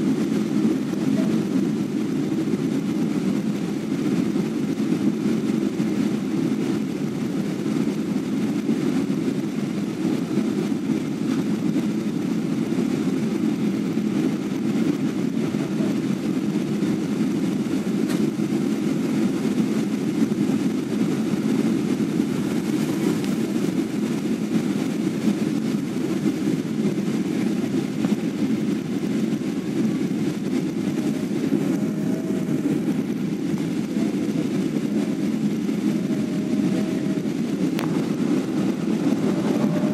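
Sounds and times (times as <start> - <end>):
airliner cabin engine noise: 0.0 - 39.9.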